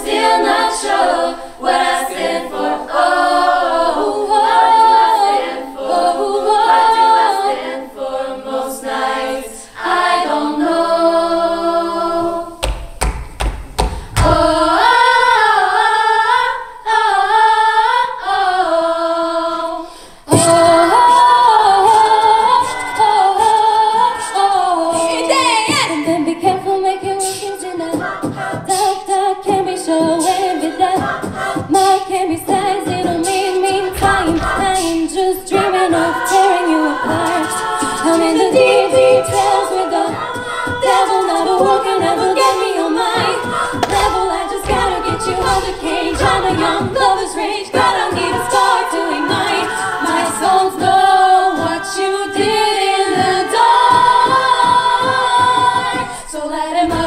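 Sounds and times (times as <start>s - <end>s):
a cappella group singing harmonies: 0.0s - 57.0s
vocal percussion beats: 0.0s - 57.0s.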